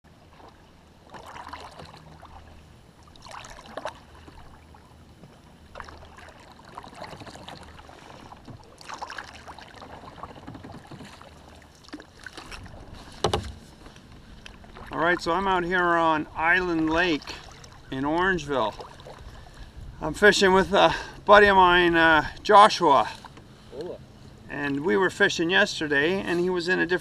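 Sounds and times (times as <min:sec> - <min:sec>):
low steady rumble: 0:00.1 - 0:10.2, 0:11.2 - 0:27.0
kayak paddle splashing: 0:00.1 - 0:25.3.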